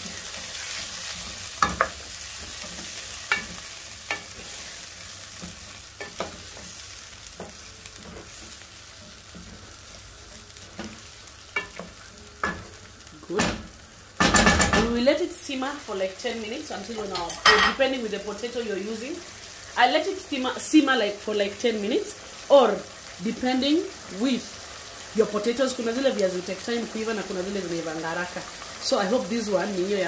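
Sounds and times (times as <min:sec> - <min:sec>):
sauce sizzling: 0:00.0 - 0:30.0.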